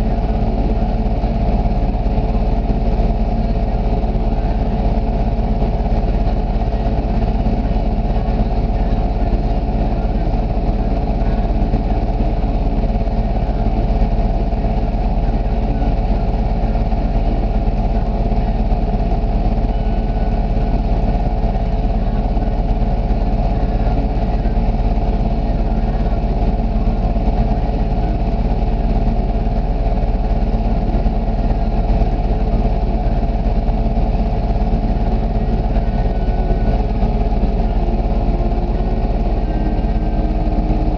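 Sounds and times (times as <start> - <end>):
atv engine idling: 0.0 - 40.9.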